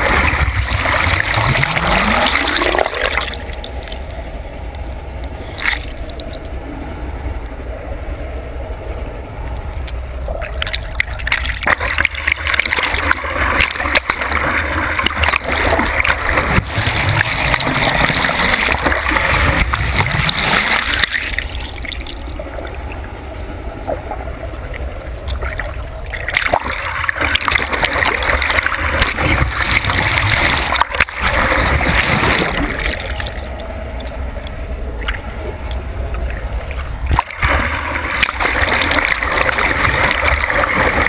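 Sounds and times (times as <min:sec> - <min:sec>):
water rushing and splashing: 0:00.0 - 0:04.6, 0:05.3 - 0:06.8, 0:09.7 - 0:41.0
muffled underwater sound: 0:00.0 - 0:41.0.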